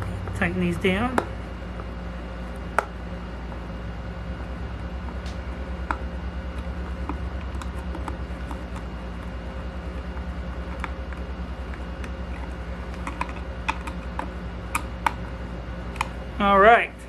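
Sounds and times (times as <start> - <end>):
low pulsing hum: 0.0 - 17.0.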